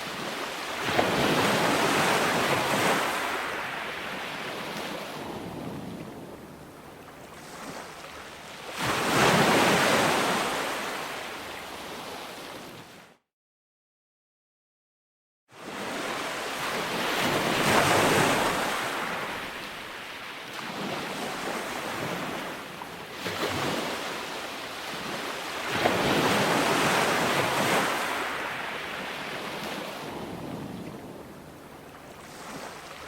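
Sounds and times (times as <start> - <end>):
ocean waves breaking on beach: 0.0 - 13.2, 15.6 - 33.0.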